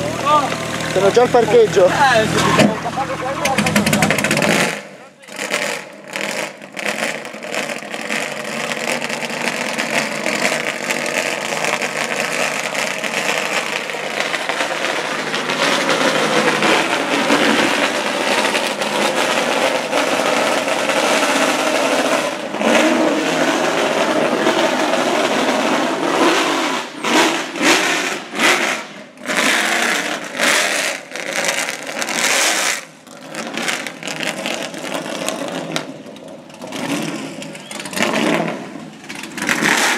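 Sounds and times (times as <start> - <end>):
loud car engine: 0.0 - 39.9.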